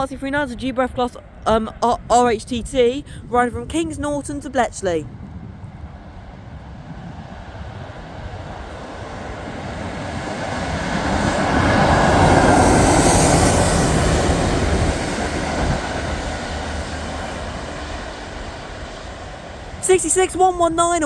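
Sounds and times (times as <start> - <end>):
diesel train passing: 0.0 - 21.0.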